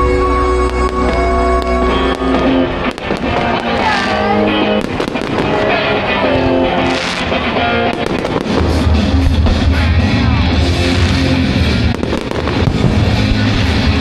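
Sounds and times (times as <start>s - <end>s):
loud rock music with heavy bass: 0.0s - 14.0s
fireworks banging and crackling: 0.6s - 14.0s.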